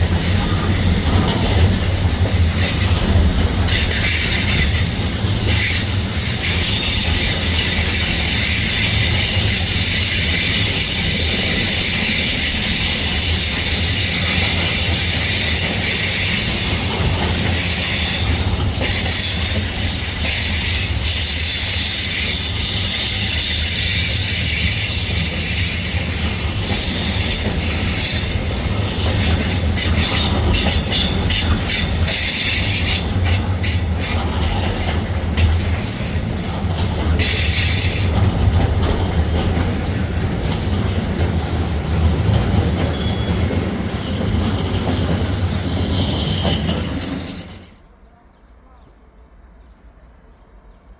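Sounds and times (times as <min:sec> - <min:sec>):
train rumbling past: 0:00.0 - 0:50.9.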